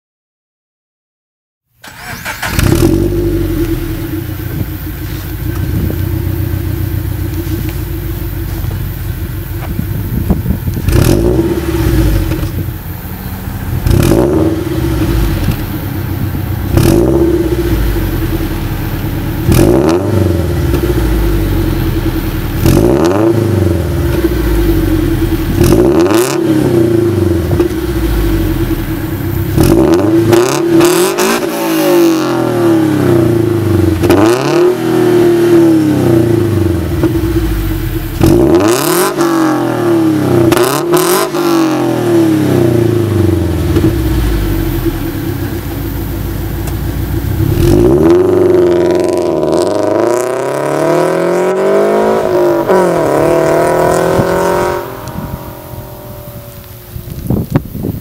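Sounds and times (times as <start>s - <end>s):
car engine idling and revving: 1.8s - 58.0s.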